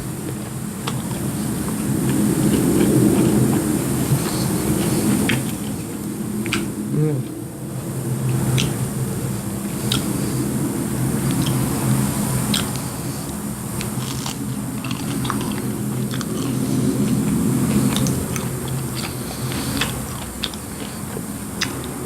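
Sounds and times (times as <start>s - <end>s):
chewing with soft crunches: 0.0s - 22.0s
steady low hum: 0.0s - 22.0s.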